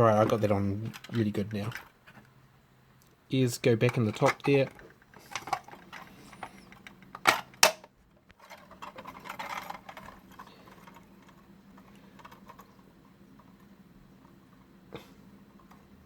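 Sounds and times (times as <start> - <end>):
rustling handling: 0.0 - 2.4, 3.7 - 14.7.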